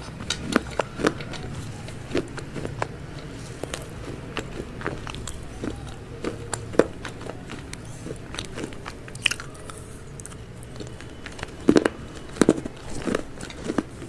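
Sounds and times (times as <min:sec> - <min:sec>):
chewing crispy fried chicken: 0:00.0 - 0:14.0.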